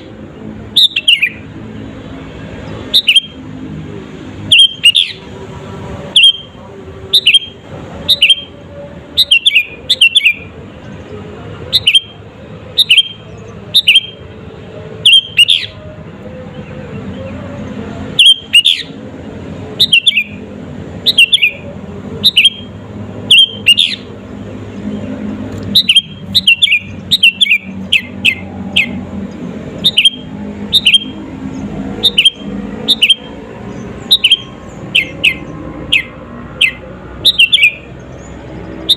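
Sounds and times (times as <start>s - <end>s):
bulbul calling sharp notes: 0.0s - 1.5s, 2.5s - 3.5s, 4.4s - 5.3s, 6.0s - 11.0s, 11.6s - 15.9s, 18.1s - 19.0s, 19.6s - 38.9s.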